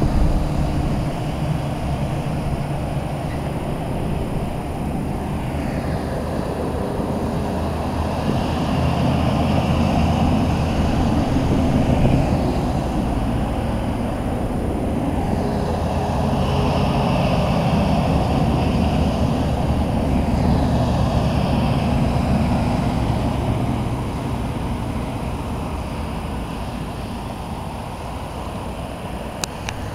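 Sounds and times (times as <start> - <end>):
heavy trucks passing: 0.0 - 29.9.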